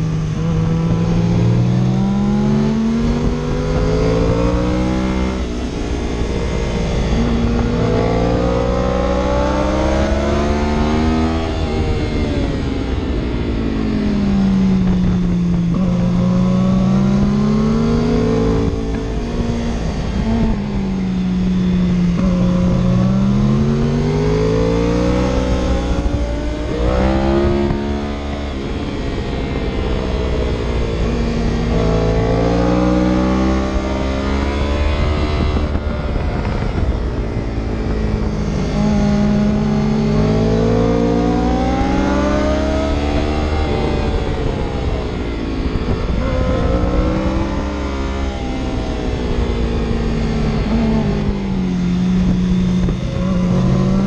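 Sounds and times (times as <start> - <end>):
road and wind noise: 0.0 - 54.0
vehicle engine revving: 0.0 - 54.0.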